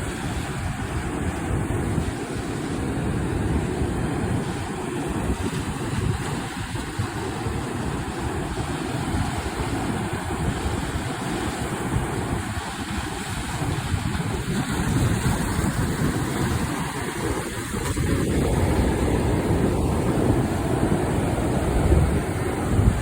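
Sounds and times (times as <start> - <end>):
ocean waves breaking: 0.0 - 23.0
wind buffeting microphone: 0.0 - 23.0.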